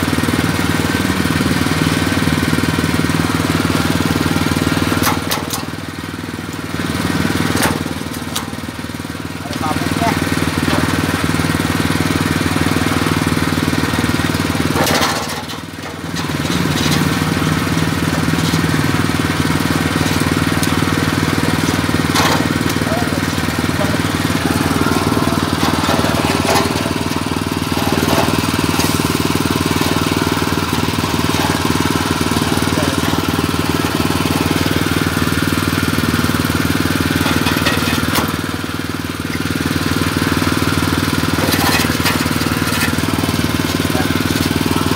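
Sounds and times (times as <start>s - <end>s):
cutter grinding coconut shell: 0.0s - 44.9s
machine drive hum: 0.2s - 44.9s.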